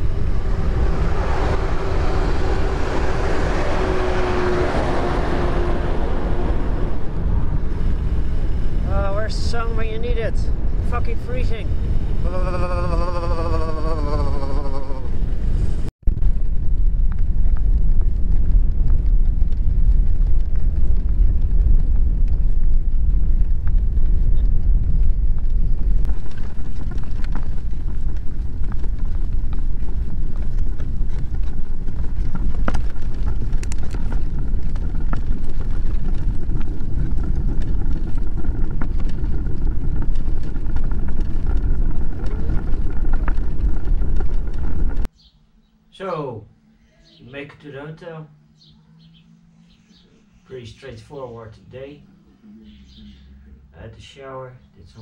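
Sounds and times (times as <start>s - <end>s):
wind rumbling on microphone: 0.0s - 45.1s.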